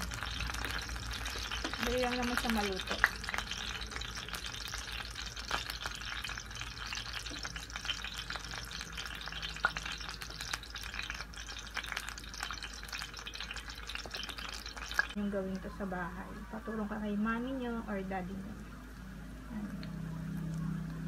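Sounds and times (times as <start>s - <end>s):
fishballs frying in oil: 0.0s - 21.0s.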